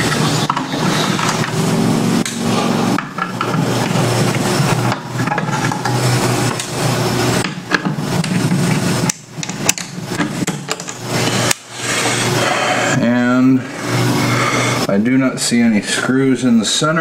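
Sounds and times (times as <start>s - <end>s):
loud rushing background noise: 0.0s - 9.4s, 10.0s - 15.0s.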